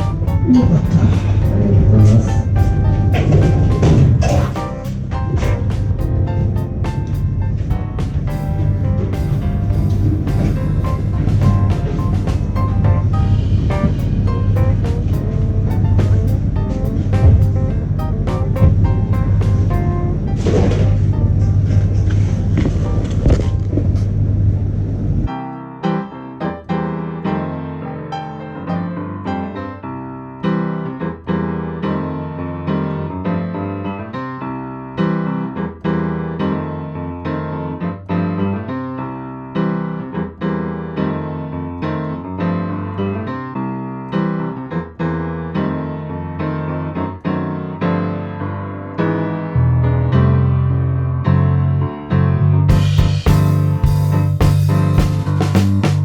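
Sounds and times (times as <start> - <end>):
electric piano music: 0.0 - 56.0.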